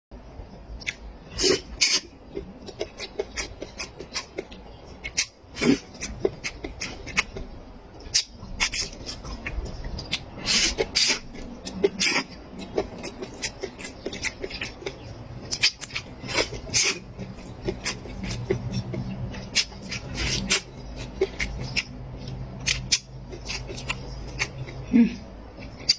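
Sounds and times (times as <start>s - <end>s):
chewing and lip-smacking: 0.8s - 25.9s.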